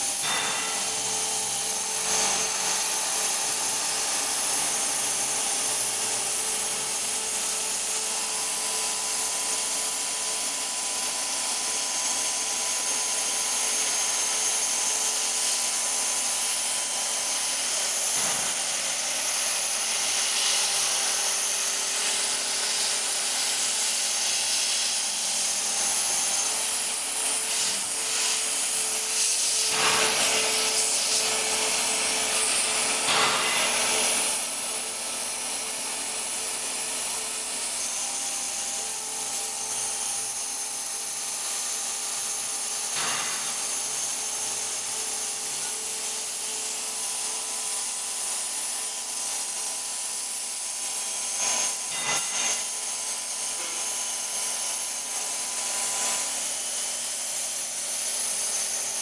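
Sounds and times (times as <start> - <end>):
router spindle cutting wood: 0.0 - 59.0.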